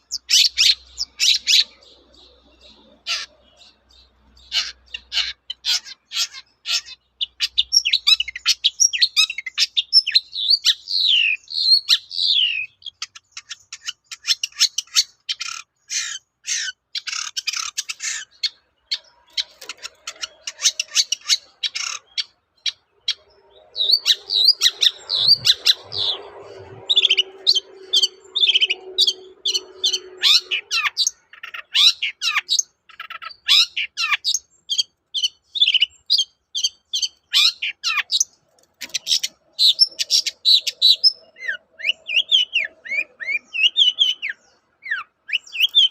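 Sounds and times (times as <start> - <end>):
bird singing: 0.0 - 45.9.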